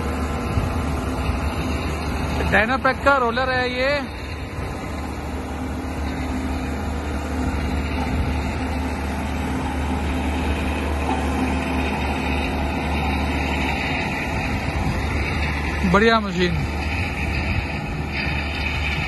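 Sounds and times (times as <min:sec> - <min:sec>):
compactor diesel engine droning: 0:00.0 - 0:19.0.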